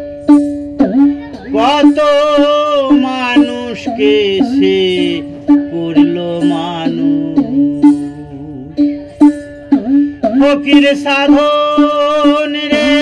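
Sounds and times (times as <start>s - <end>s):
song with plucked strings: 0.0s - 13.0s.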